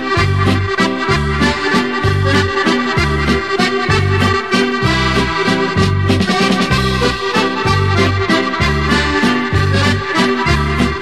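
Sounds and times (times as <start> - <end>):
lively instrumental music: 0.0 - 11.0.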